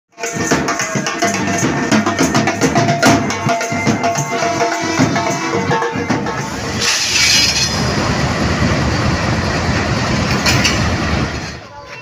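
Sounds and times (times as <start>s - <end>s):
drums beating a fast rhythm: 0.1s - 11.4s.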